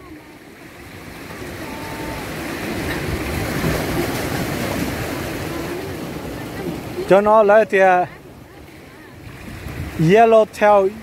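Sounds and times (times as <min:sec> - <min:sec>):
sea surf washing against rocks: 0:00.0 - 0:11.0.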